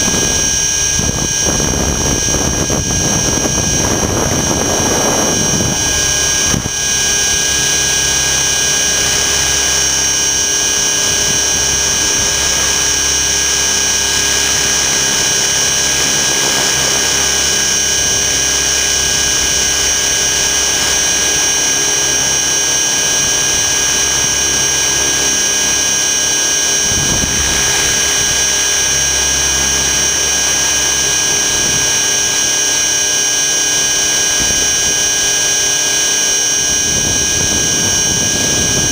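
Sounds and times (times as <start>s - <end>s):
rc helicopter motor whine: 0.0s - 38.9s
rotor noise: 0.0s - 38.9s.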